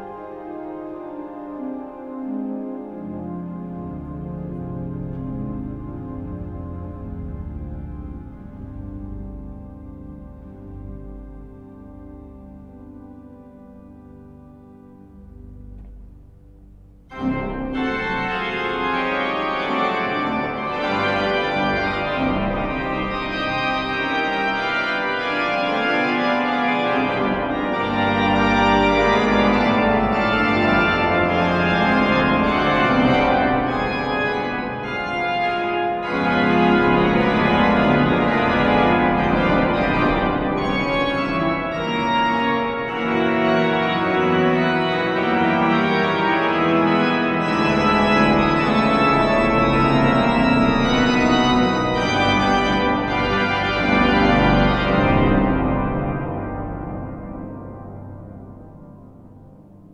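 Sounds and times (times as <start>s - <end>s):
organ playing fast passage: 0.0s - 59.0s.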